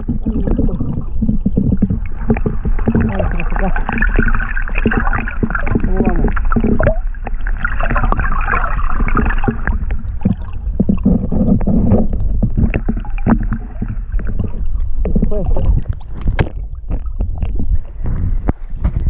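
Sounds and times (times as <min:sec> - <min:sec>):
muffled underwater water noise: 0:00.0 - 0:19.0.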